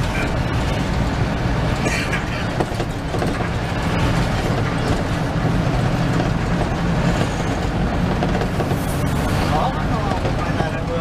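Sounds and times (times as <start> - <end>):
bus engine drone: 0.0 - 11.0
road and body rumble: 0.0 - 11.0.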